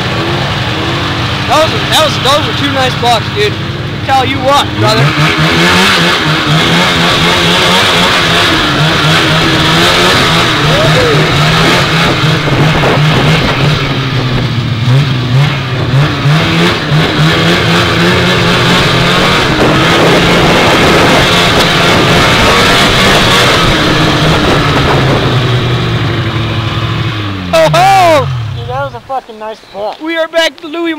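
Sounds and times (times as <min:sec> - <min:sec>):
snowmobile engine at speed: 0:00.0 - 0:30.9.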